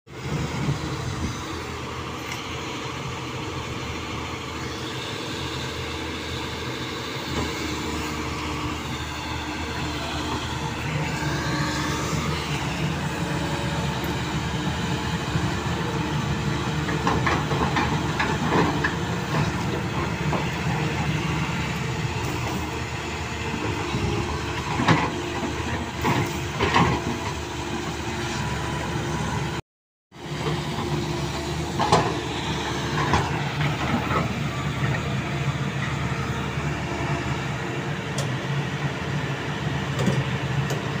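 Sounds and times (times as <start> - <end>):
excavator diesel engine running: 0.1 - 29.6, 30.2 - 41.0.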